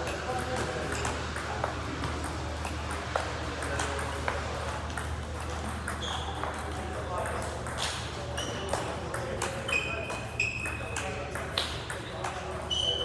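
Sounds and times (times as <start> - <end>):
table tennis balls clicking: 0.0 - 13.0.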